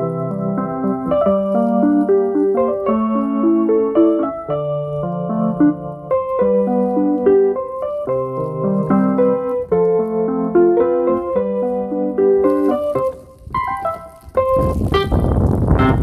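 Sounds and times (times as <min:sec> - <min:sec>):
piano keyboard music: 0:00.0 - 0:16.0.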